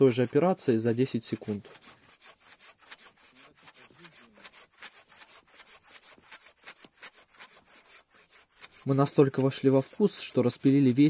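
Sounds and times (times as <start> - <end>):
bow saw rasping through log: 0.0 - 11.0.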